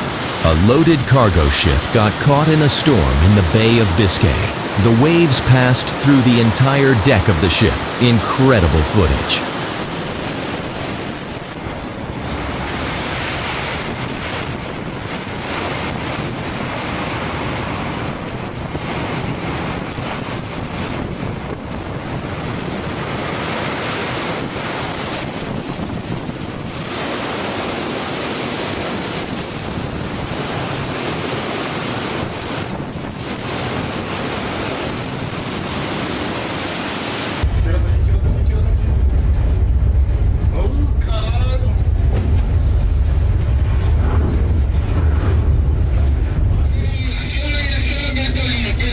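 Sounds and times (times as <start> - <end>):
heavy seas breaking over deck: 0.0 - 48.9
storm wind on microphone: 9.4 - 48.9.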